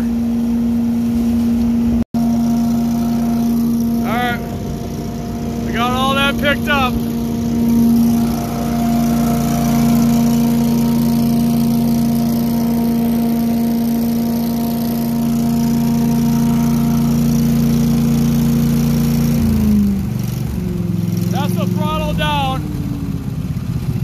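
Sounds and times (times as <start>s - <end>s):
engine and fan drone: 0.0s - 24.0s.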